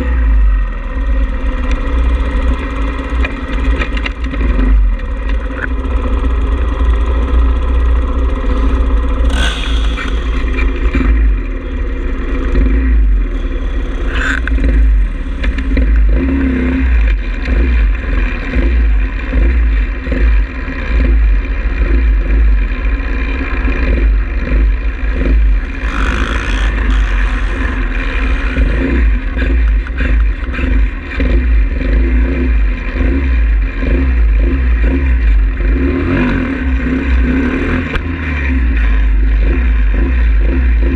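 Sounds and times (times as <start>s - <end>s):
small motorbike engine revving: 0.0s - 40.9s.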